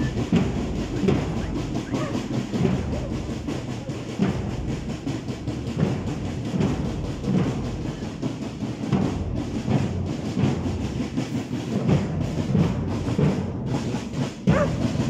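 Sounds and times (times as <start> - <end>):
marching drums beating: 0.0 - 15.0.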